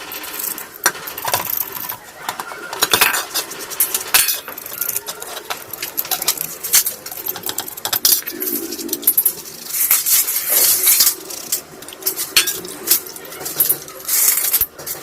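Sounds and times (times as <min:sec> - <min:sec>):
metal parts clinking and scraping: 0:00.0 - 0:15.0.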